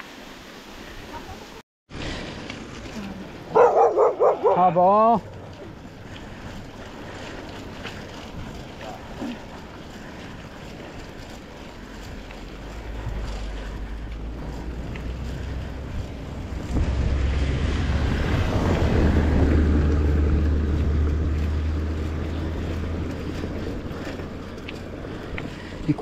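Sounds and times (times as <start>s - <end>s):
wind buffeting microphone: 5.1s - 26.0s.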